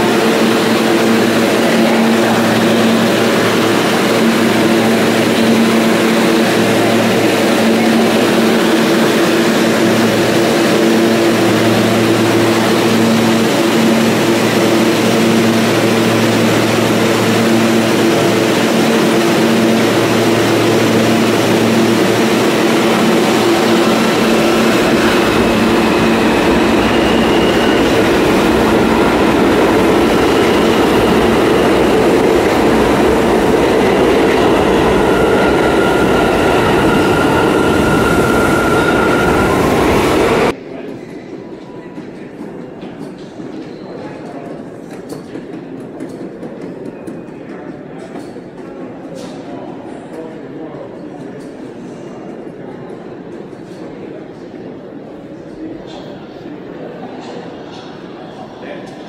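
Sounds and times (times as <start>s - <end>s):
train wheels rumbling on track: 0.0s - 54.2s
subway train humming: 0.0s - 59.0s.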